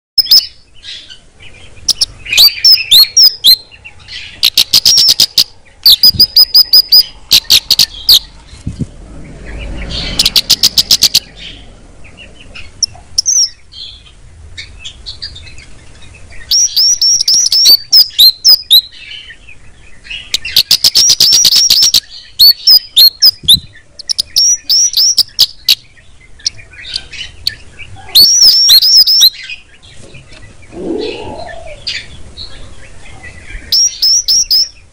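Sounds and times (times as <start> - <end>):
songbird rattling trills and chirps: 0.2 - 34.9.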